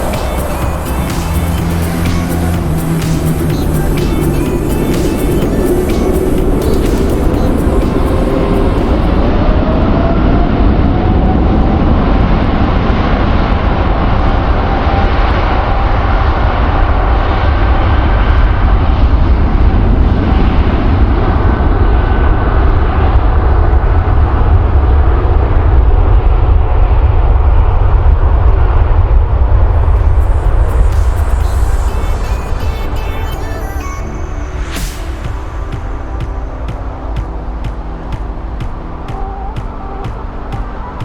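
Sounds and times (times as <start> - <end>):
jet engine whine rising: 0.0 - 41.0
jet engines rumbling: 0.0 - 41.0.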